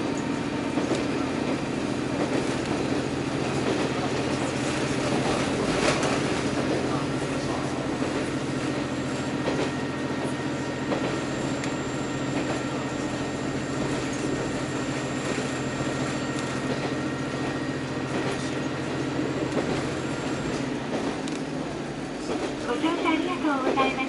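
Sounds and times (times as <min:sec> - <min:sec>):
rail joint clicks: 0:00.0 - 0:24.0
wheels rumbling on rail: 0:00.0 - 0:24.0.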